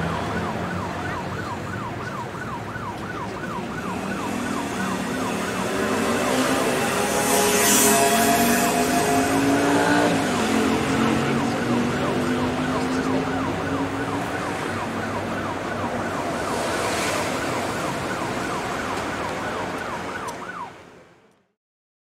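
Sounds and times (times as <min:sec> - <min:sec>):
siren yelping: 0:00.0 - 0:20.8.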